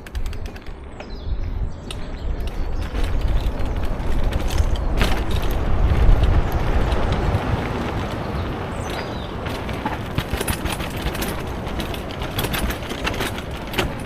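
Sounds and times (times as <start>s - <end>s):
knocks and rattles: 0.0s - 14.0s
vehicle rumble on rough track: 0.0s - 14.0s
wind noise on microphone: 0.0s - 14.0s.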